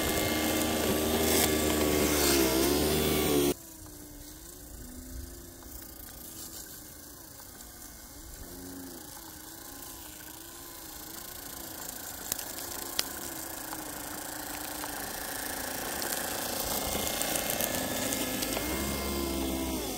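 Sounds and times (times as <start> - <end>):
small electric motor hum: 0.0 - 19.9.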